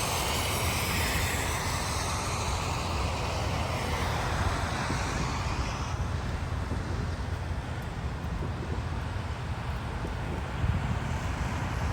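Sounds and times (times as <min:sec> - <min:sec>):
traffic road noise: 0:00.0 - 0:11.9
wind on microphone: 0:00.0 - 0:11.9.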